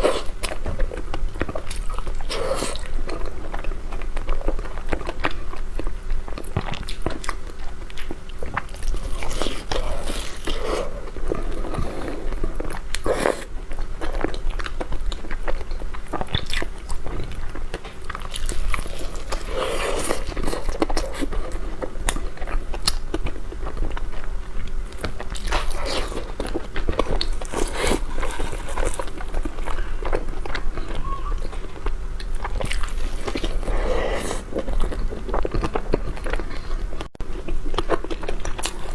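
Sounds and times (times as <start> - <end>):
biting and chewing pastry: 0.0 - 38.9
low steady hum: 0.0 - 38.9.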